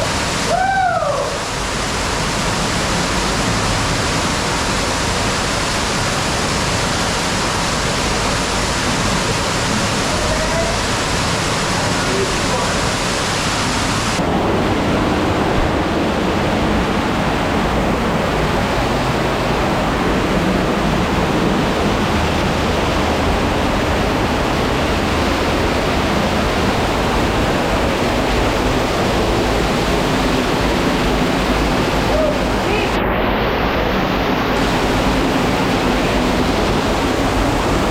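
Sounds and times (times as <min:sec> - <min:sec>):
cave waterfall rushing: 0:00.0 - 0:37.9.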